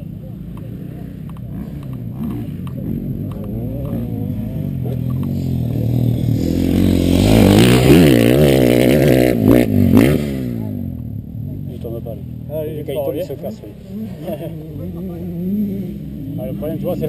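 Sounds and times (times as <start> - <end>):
motorbike engine revving: 0.6 - 17.0.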